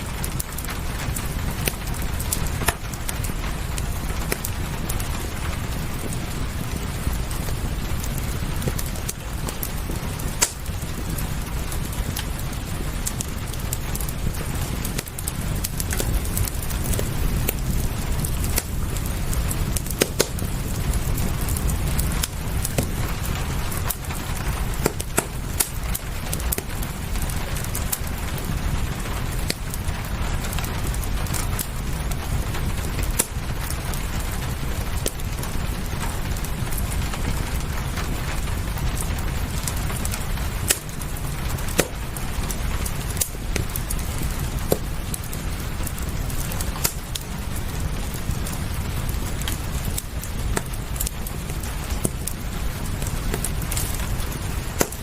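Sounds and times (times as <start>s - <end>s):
rain hissing: 0.0s - 55.0s
wood fire crackling and popping: 0.0s - 55.0s.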